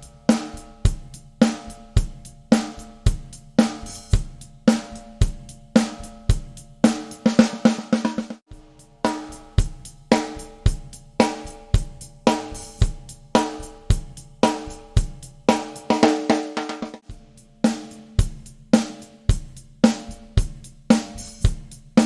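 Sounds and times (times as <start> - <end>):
drum kit groove: 0.0 - 22.0.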